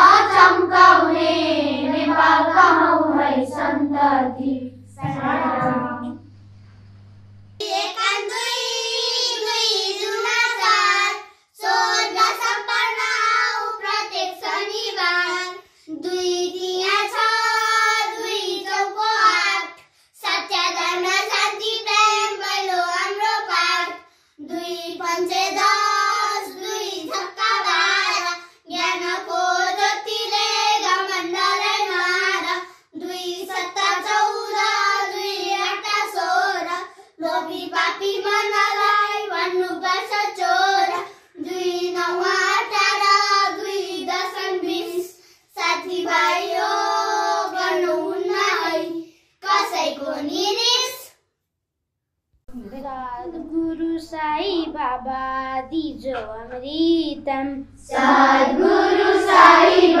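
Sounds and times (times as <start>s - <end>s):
children singing unaccompanied: 0.0s - 6.3s, 7.6s - 50.6s, 52.6s - 60.0s.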